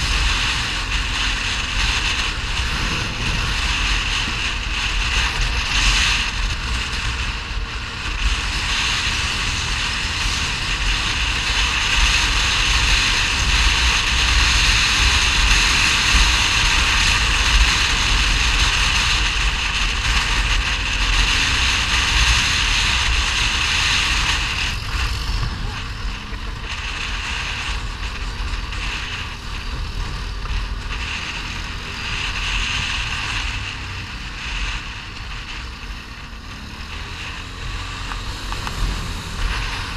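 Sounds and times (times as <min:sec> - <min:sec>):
atv engine running: 0:00.0 - 0:39.9
tyres on loose gravel: 0:00.0 - 0:39.9
wind buffeting microphone: 0:00.0 - 0:39.9.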